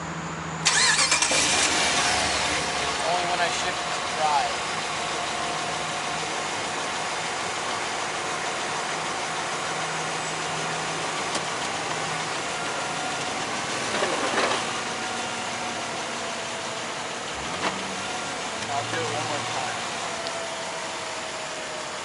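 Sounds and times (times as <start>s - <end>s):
car engine idling: 0.1s - 22.0s.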